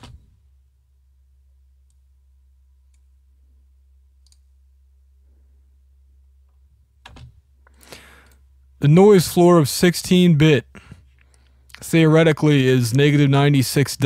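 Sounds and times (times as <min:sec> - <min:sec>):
computer humming: 0:00.0 - 0:14.0.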